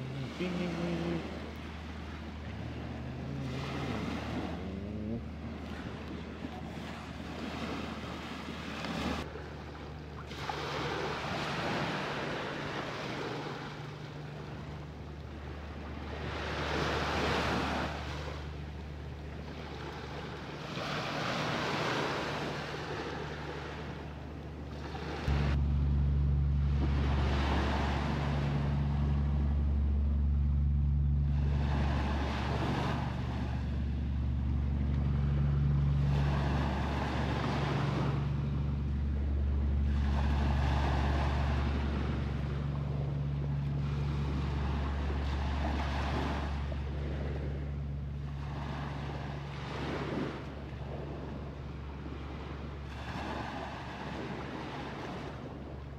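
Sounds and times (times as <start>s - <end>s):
steady low hum: 0.0s - 55.9s
waves breaking on shore: 0.0s - 55.9s.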